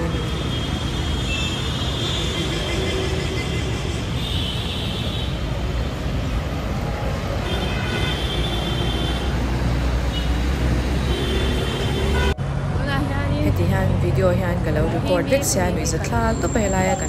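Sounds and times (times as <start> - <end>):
city traffic hum: 0.0 - 17.0.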